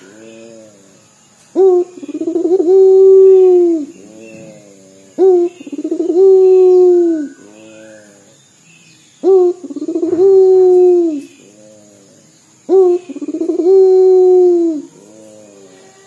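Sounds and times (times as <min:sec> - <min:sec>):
dove cooing: 0:00.0 - 0:01.0, 0:01.6 - 0:08.4, 0:09.2 - 0:15.8.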